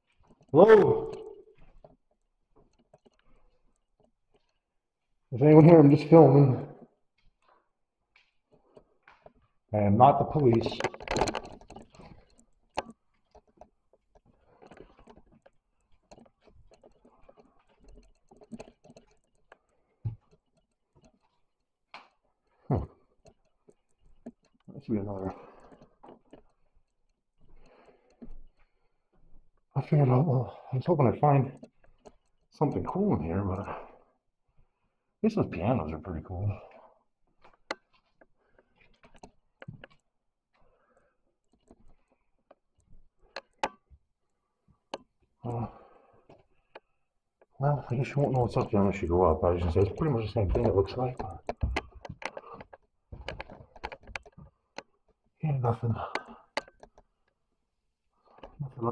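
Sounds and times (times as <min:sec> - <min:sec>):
faint clicks: 0:10.2 - 0:57.4.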